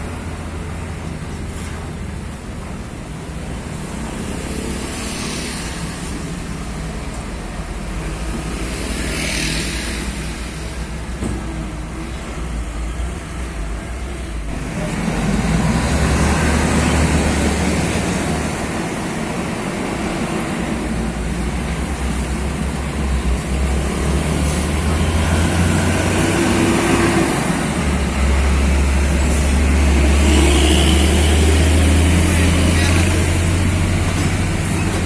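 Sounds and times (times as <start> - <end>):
heavy trucks driving past: 0.0 - 35.0.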